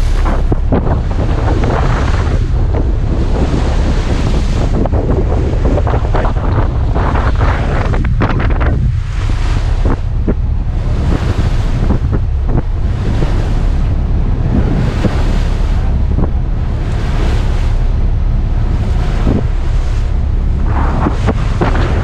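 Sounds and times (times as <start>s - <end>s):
sea water rushing: 0.0s - 22.0s
steady low rumble: 0.0s - 22.0s
wind buffeting microphone: 0.0s - 22.0s.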